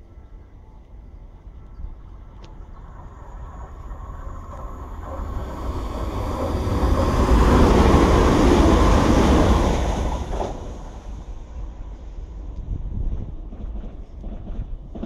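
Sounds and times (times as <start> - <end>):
diesel train passing at speed: 0.0 - 15.0.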